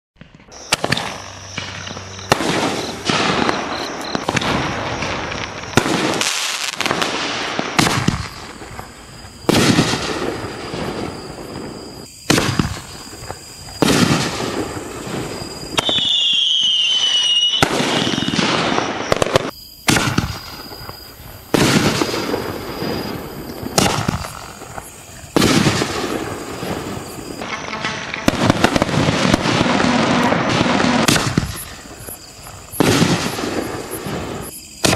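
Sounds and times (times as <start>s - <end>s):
firework bangs with crackle: 0.2s - 34.9s
falling firework whistle: 0.3s - 34.9s.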